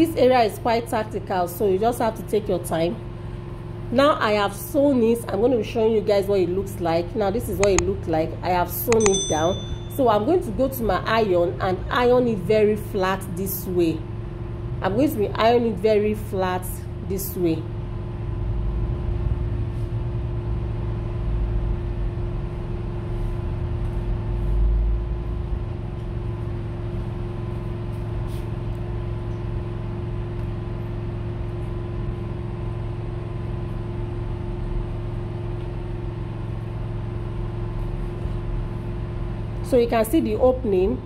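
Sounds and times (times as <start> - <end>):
low mechanical hum with whine: 0.0 - 41.0.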